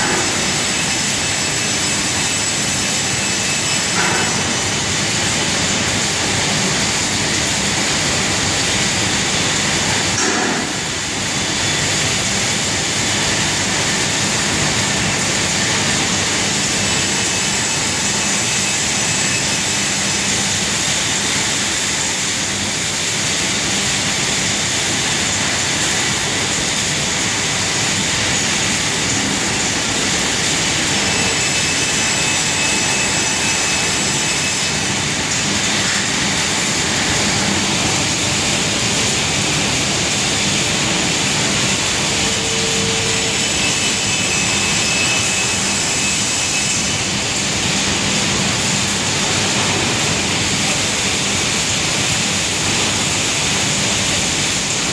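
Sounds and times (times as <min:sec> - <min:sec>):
industrial extraction fans running: 0:00.0 - 0:54.9.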